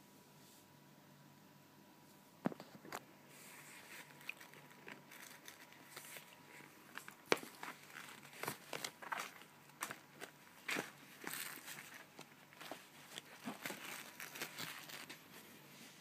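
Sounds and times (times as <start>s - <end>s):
crinkly rustling: 2.5s - 16.0s.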